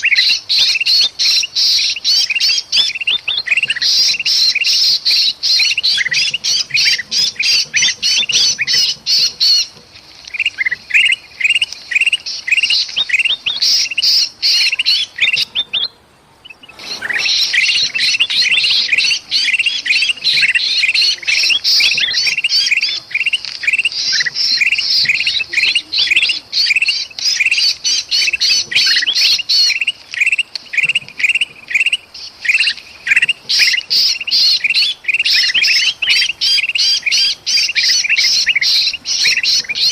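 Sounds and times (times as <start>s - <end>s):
birds harsh chattering calls: 0.0s - 39.9s
trapped bird distress calls: 0.0s - 39.9s.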